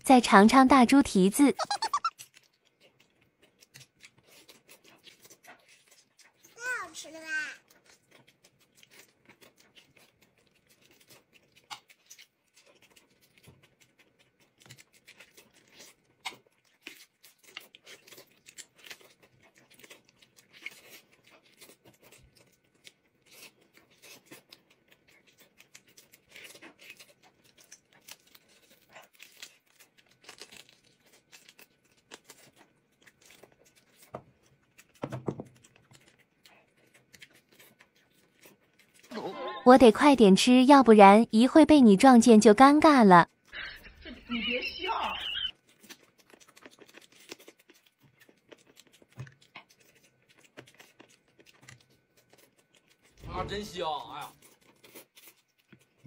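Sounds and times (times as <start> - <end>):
wet chewing and smacking: 1.5 - 39.2, 40.2 - 56.0
meat tearing: 1.7 - 39.2, 45.5 - 53.3, 54.2 - 56.0.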